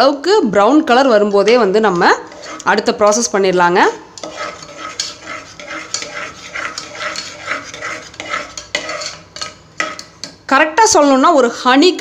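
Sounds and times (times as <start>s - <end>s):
metal spoon scraping pot: 1.4s - 11.4s.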